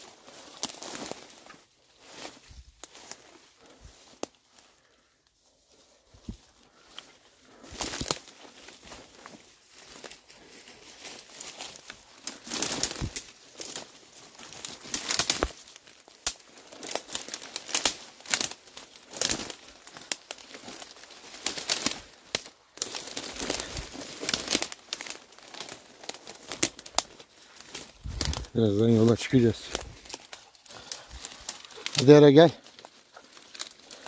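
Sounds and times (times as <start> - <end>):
branches brushing and scraping: 0.0 - 34.0
leaves and twigs crackling underfoot: 0.0 - 34.0.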